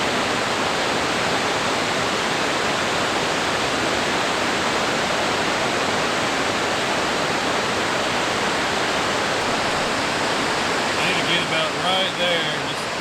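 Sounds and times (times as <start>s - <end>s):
creek water rushing over rocks: 0.0s - 13.0s.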